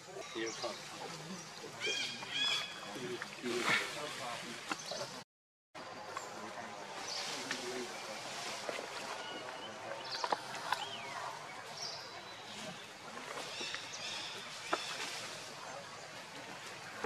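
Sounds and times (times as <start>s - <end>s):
steady outdoor background: 0.0s - 17.0s.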